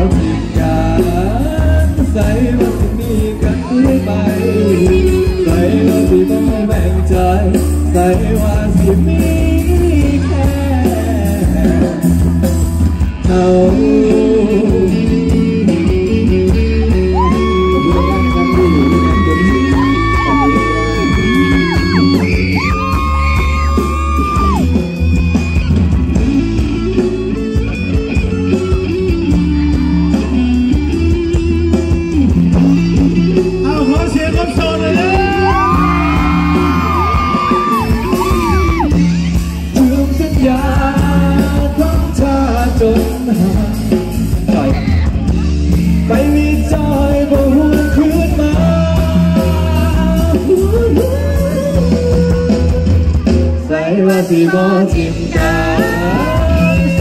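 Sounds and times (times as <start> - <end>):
live pop song over pa system: 0.0 - 57.0.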